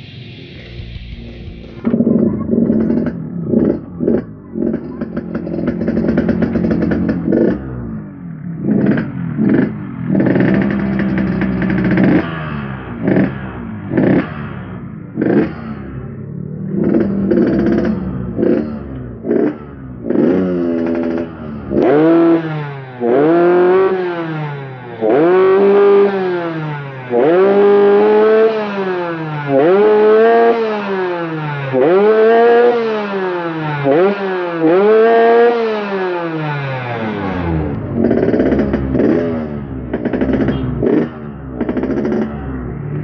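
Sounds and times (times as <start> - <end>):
two-stroke motorcycle engine revving: 0.0 - 43.0.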